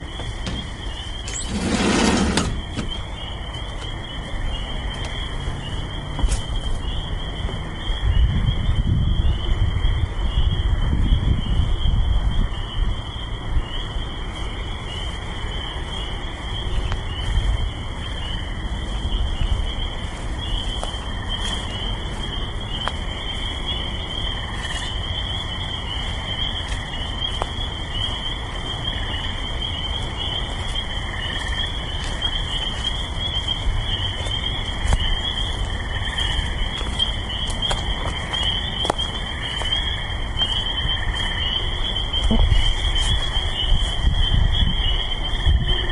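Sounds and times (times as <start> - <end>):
distant highway traffic: 0.0 - 45.9
frogs trilling: 0.0 - 45.9.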